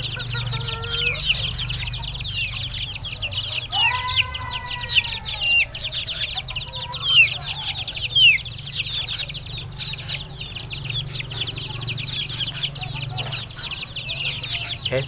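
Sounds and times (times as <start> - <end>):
chicks peeping and chirping: 0.0 - 15.0.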